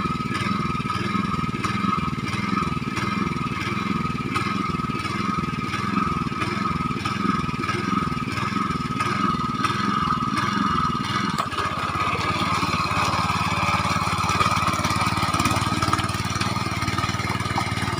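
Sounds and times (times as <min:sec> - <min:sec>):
mini tractor engine running: 0:00.0 - 0:17.9.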